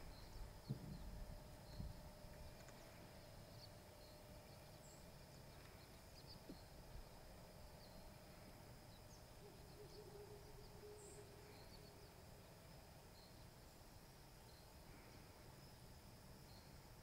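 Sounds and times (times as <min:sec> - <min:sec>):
distant birds chirping: 0:00.0 - 0:17.0.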